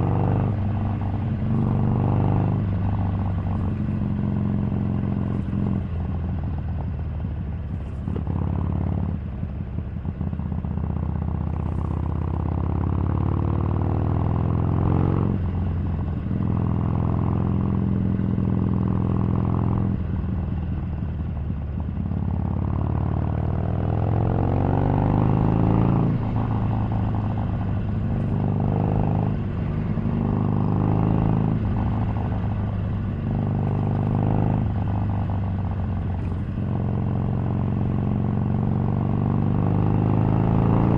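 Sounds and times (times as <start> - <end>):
motorcycle engine revving: 0.0 - 6.2, 11.4 - 40.9.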